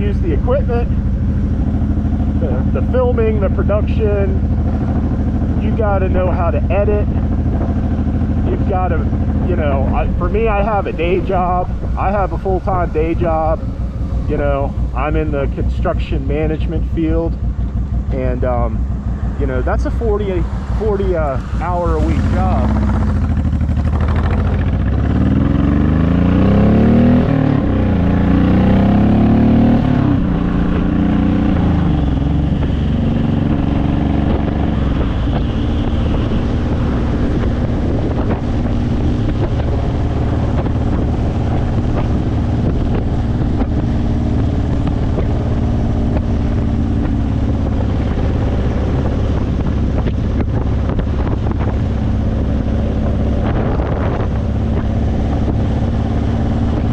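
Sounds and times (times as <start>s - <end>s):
motorcycle engine: 0.0s - 56.9s
wind noise on microphone: 3.4s - 56.9s.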